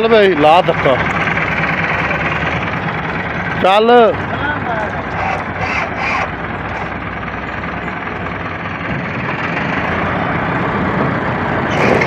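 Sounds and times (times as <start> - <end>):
diesel tractor engine rumbling: 0.0 - 12.0.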